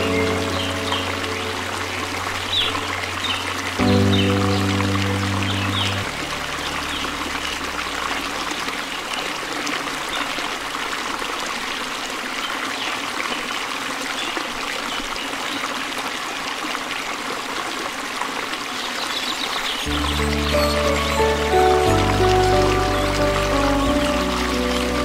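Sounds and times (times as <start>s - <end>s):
water rushing over rocks: 0.0s - 25.0s.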